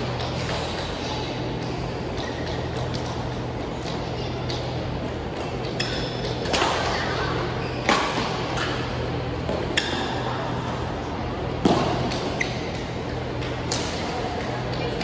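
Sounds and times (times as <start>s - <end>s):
low hum in large hall: 0.0s - 15.0s.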